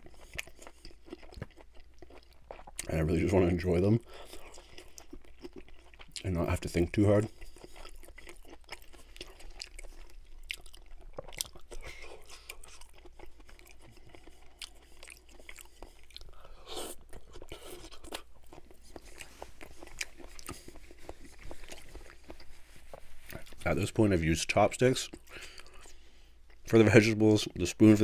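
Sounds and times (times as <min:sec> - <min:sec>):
chewing and crunching vegetables: 0:00.0 - 0:28.0.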